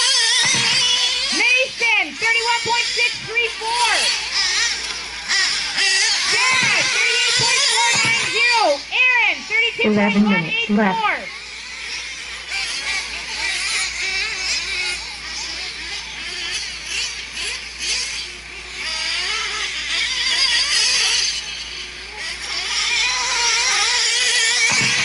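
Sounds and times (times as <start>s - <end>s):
rc truck engines whining: 0.0s - 25.0s.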